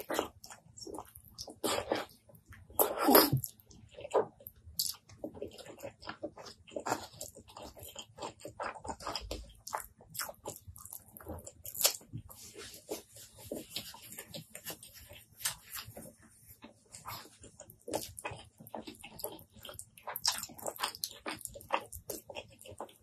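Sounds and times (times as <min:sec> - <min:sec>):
wet chewing and lip-smacking: 0:00.0 - 0:23.0.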